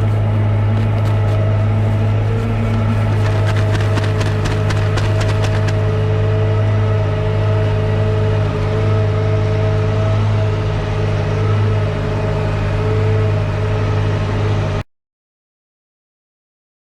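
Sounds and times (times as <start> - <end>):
steady whining tones: 0.0 - 14.7
tractor engine drone: 0.0 - 14.8.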